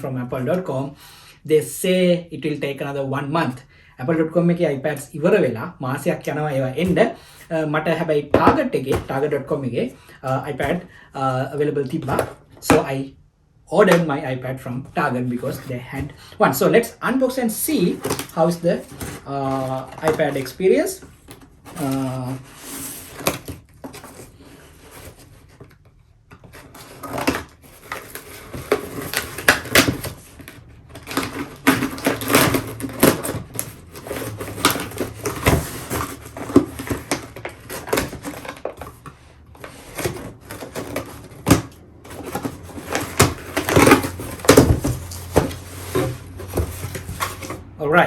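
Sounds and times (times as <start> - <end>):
cardboard and plastic rustling: 5.9 - 13.1, 13.8 - 47.8.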